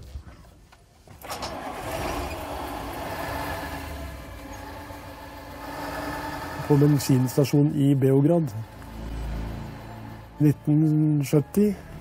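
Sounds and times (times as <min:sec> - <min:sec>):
diesel engine running: 0:01.2 - 0:12.0.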